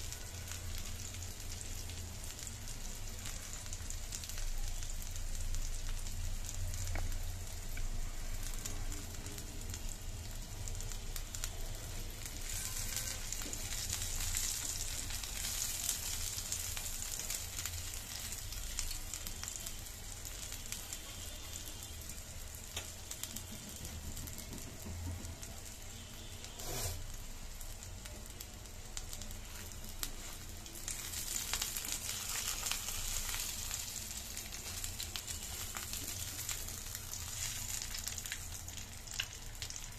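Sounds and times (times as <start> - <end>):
oil sizzling in a pan: 0.0 - 39.9.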